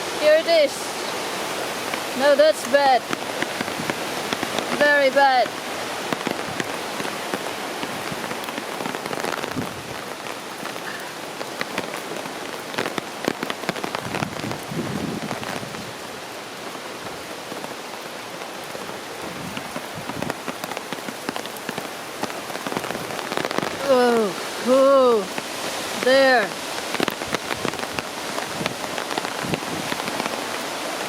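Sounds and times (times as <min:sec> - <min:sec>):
heavy rain pelting down: 0:00.0 - 0:31.0.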